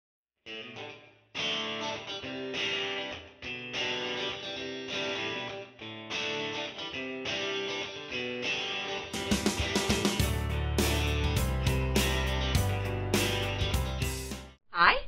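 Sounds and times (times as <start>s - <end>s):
guitar chords strummed: 0.5s - 14.6s.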